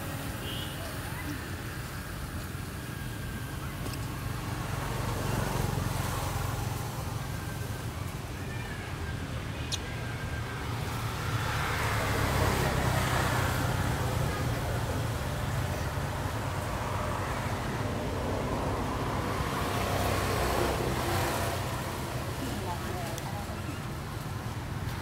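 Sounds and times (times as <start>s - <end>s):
low rumble of road traffic: 0.0s - 25.0s.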